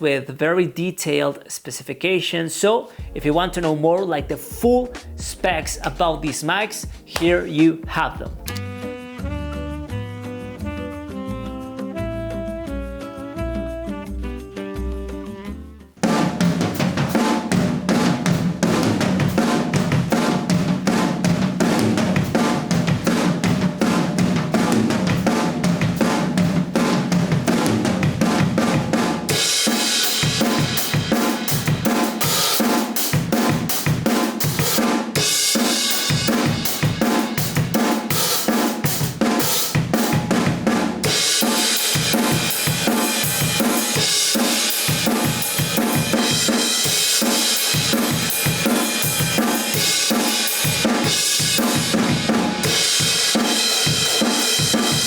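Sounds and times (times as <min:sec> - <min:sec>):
acoustic drum kit groove: 0:03.0 - 0:55.0.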